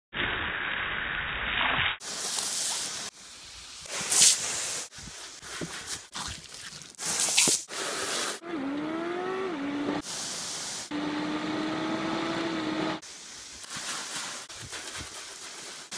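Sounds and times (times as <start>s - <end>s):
hose spraying water: 0.5s - 8.4s, 10.0s - 12.0s, 13.0s - 15.9s.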